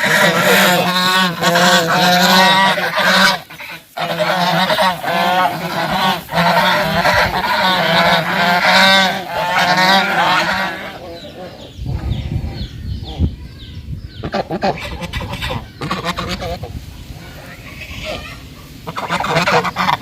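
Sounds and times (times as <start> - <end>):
goose honking loudly: 0.0 - 12.5, 14.2 - 20.0.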